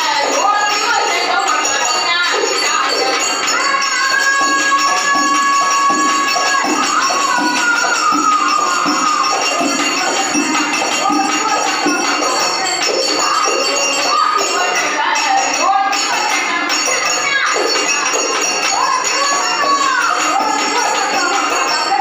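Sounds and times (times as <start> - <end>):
jingling percussion: 0.0 - 22.0.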